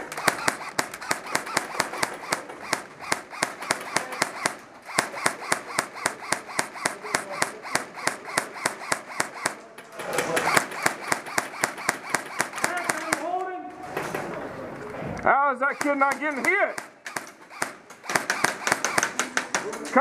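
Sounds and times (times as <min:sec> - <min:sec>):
airsoft guns firing: 0:00.0 - 0:14.5, 0:15.6 - 0:20.0.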